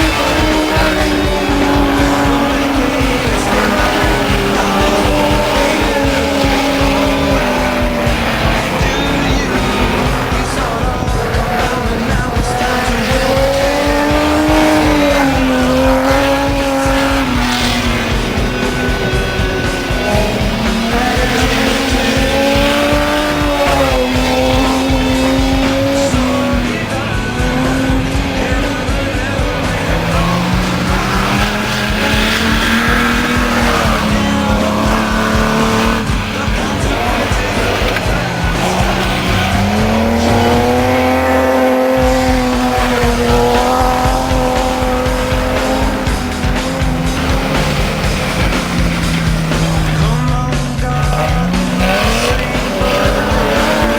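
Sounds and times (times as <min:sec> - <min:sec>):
race car engines revving: 0:00.0 - 0:53.9
tyre and track noise: 0:00.0 - 0:53.9.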